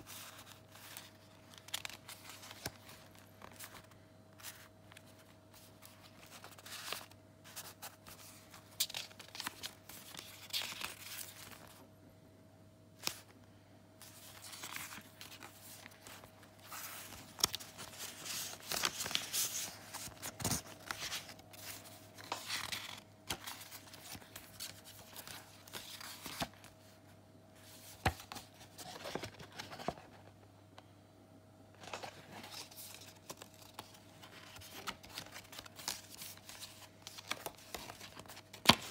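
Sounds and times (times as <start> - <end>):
paper pages rustling: 0.0 - 11.8, 14.0 - 27.0, 27.6 - 30.4, 31.8 - 38.9.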